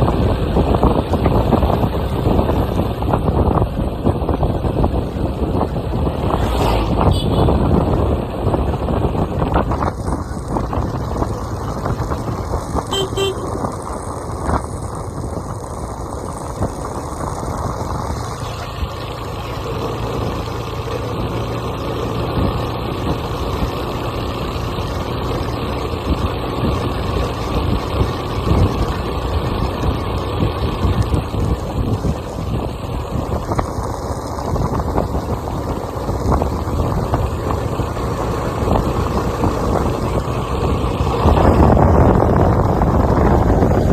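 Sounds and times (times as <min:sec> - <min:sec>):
moving vehicle rumble: 0:00.0 - 0:43.9
wind buffeting microphone: 0:00.0 - 0:43.9.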